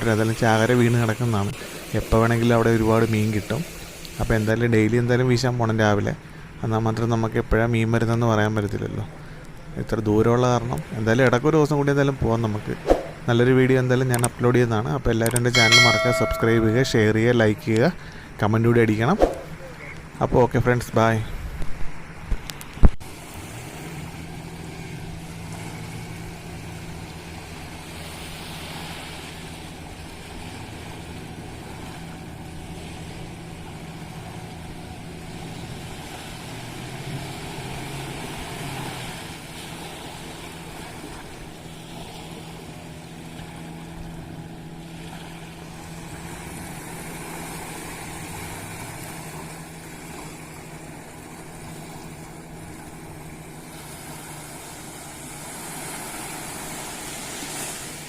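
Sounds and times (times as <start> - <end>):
boat engines droning: 0.0 - 58.0.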